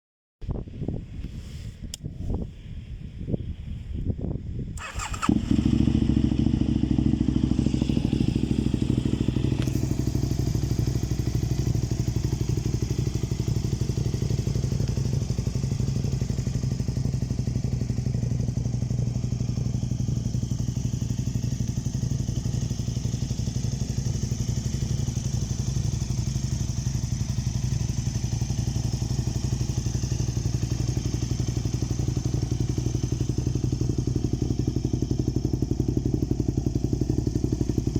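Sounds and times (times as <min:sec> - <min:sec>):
motorcycle engine idling: 0:02.9 - 0:37.9.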